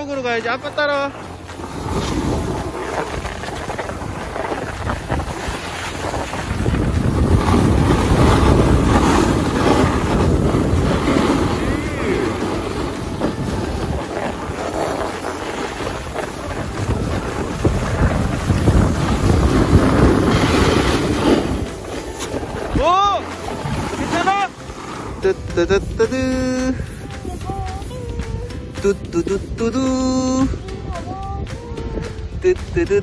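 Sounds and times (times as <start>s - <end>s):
skis scraping packed snow: 0.0s - 29.4s
wind buffeting microphone: 0.8s - 32.8s.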